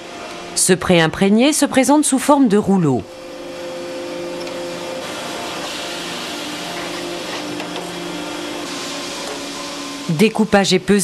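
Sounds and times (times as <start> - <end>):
machinery humming with hiss: 0.0 - 11.0.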